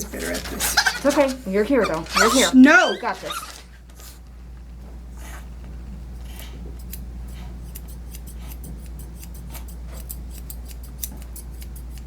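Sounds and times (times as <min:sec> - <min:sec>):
grooming shears snipping hair: 0:00.0 - 0:04.2, 0:06.1 - 0:12.0
steady low hum: 0:00.0 - 0:12.0.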